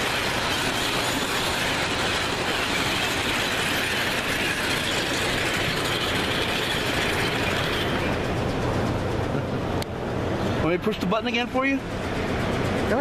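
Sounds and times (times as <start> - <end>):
model trains whirring and clattering: 0.0 - 13.0.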